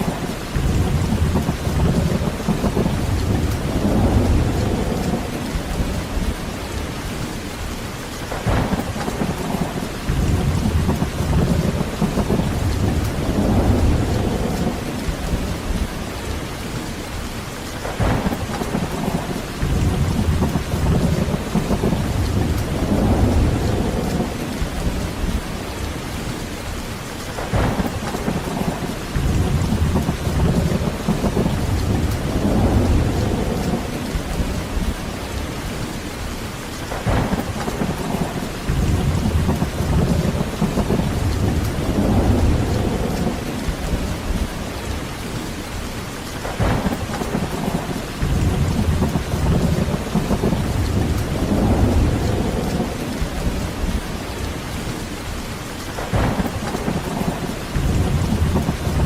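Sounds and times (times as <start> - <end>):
rolling thunder: 0.0 - 7.4, 8.2 - 16.9, 17.7 - 26.5, 27.3 - 36.0, 36.8 - 59.0
heavy rain: 0.0 - 59.0.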